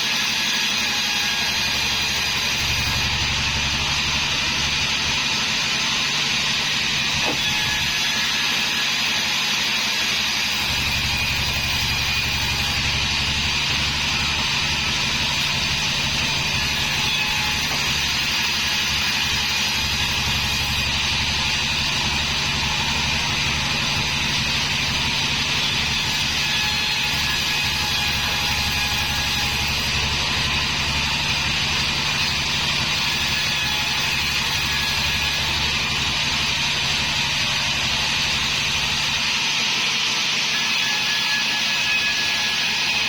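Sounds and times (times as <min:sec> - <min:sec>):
band sawmill running: 0:00.0 - 0:43.0.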